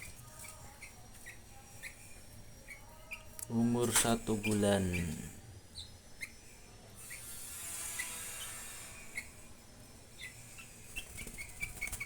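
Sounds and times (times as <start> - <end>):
bird chick chirping: 0.0 - 12.0.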